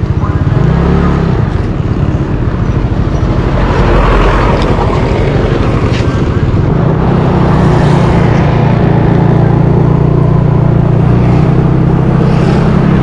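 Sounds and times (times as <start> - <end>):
motor scooter engine revving: 0.0 - 13.0
wind rumble on microphone: 1.4 - 13.0.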